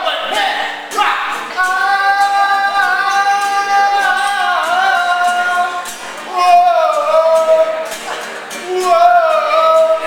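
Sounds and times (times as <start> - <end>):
man singing high held note: 1.0 - 7.9, 8.6 - 10.0.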